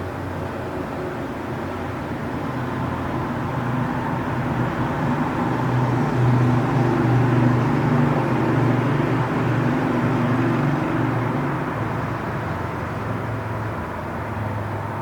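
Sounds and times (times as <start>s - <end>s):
low engine hum and rumble: 0.0s - 15.0s.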